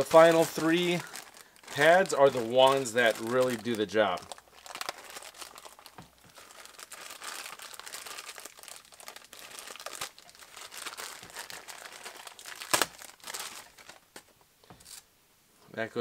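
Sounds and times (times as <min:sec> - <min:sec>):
plastic packaging crinkling: 0:00.0 - 0:15.1.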